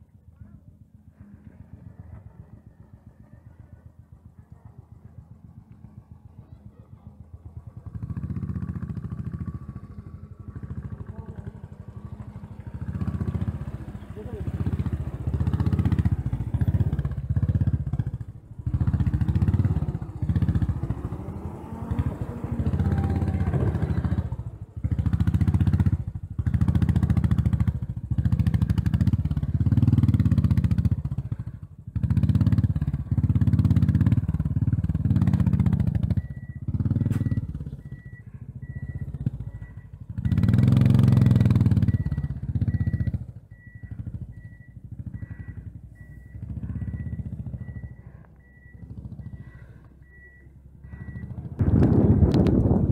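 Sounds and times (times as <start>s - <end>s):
motorcycle engine revving: 1.1s - 52.9s.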